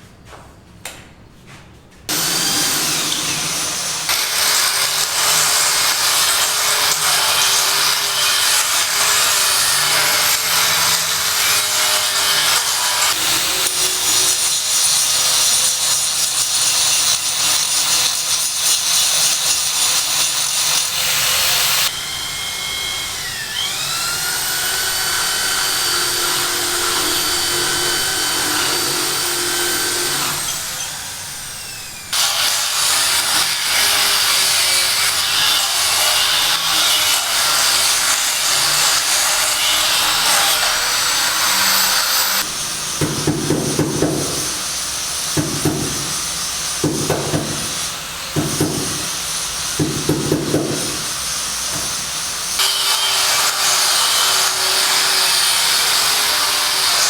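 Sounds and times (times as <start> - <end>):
electric power tool cutting: 2.1 - 43.0, 50.8 - 57.0.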